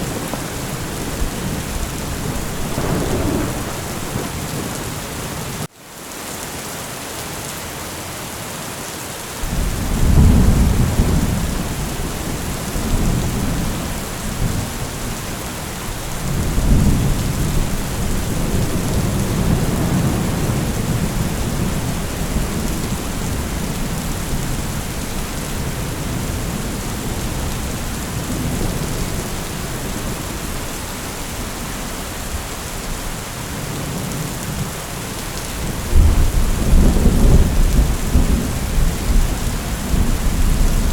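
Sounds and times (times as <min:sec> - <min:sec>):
rolling thunder: 0:00.0 - 0:05.7, 0:09.4 - 0:34.8, 0:35.6 - 0:40.9
steady rain: 0:00.0 - 0:40.9.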